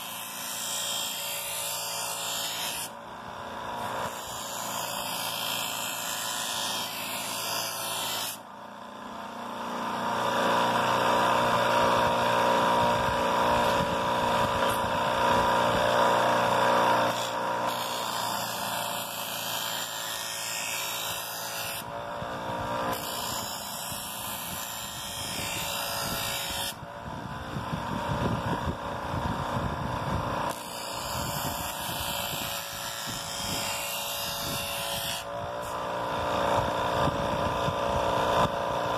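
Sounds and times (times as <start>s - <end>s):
electric grinder motor humming: 0.0s - 38.9s.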